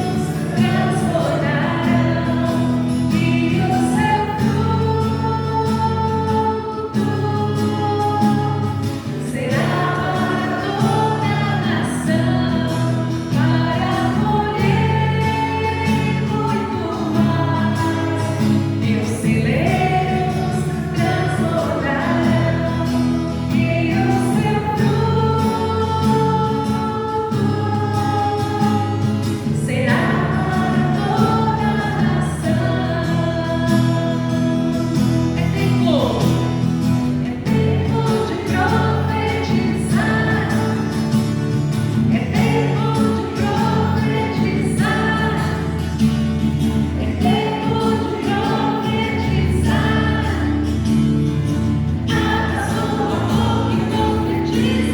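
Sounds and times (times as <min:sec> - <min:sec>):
voices singing worship song: 0:00.0 - 0:54.9.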